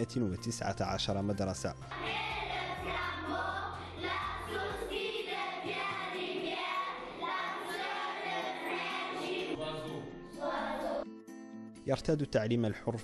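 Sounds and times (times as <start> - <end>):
music with singing voices: 0.0 - 13.0.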